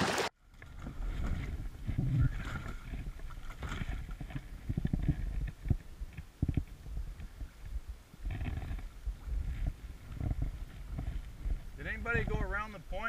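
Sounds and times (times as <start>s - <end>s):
water sloshing around kayak: 0.0s - 13.0s.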